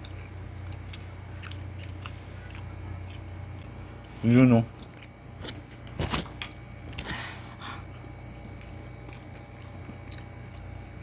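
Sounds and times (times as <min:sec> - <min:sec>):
people chewing and smacking: 0:00.0 - 0:11.0
steady low hum: 0:00.0 - 0:11.0.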